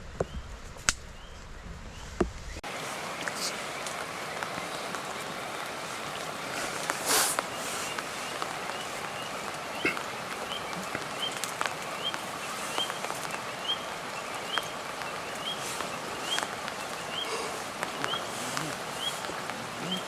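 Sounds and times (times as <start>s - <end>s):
steady hiss: 2.1s - 20.0s.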